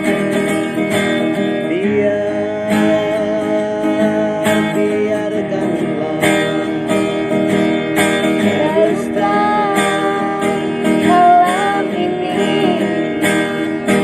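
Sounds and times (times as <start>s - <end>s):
guitar-led pop ballad music: 0.0s - 14.0s.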